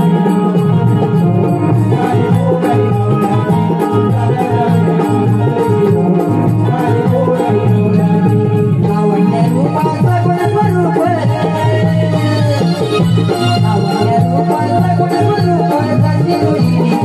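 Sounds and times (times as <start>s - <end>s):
repeating drum rhythm: 0.0s - 17.0s.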